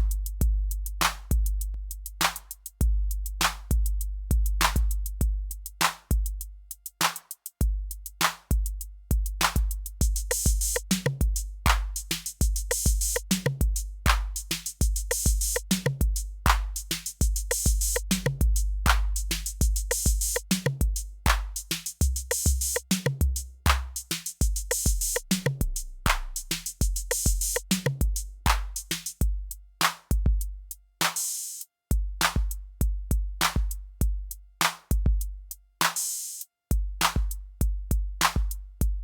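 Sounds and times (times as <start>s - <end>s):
deep electronic kick drum: 0.0s - 6.5s, 7.6s - 29.5s, 30.1s - 30.7s, 31.9s - 34.3s, 34.9s - 35.5s, 36.7s - 39.0s
crisp hi-hats: 0.0s - 39.0s.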